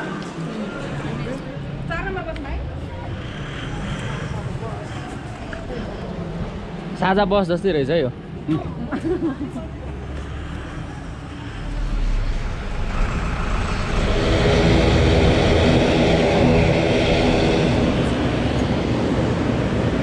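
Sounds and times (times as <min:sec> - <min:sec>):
aircraft engines running up: 0:00.0 - 0:20.0.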